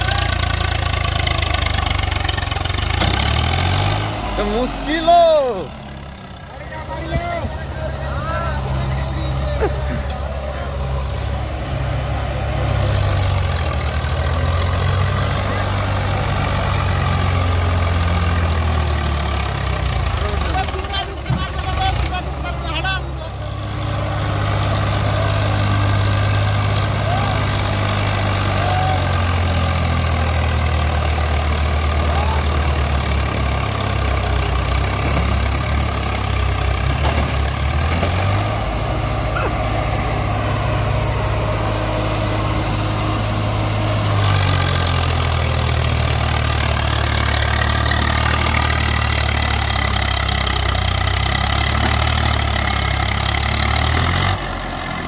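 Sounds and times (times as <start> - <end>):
heavy diesel tractor engine running: 0.0 - 55.0.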